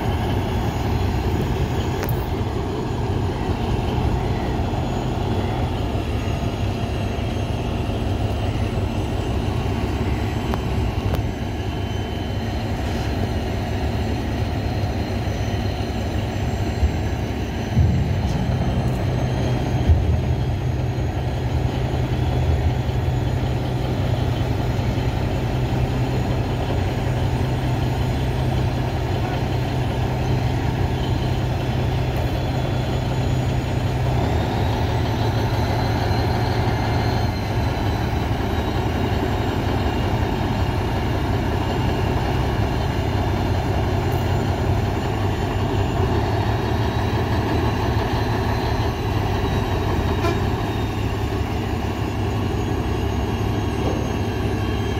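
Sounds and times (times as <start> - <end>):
heavy vehicle engine drone: 0.0 - 54.9.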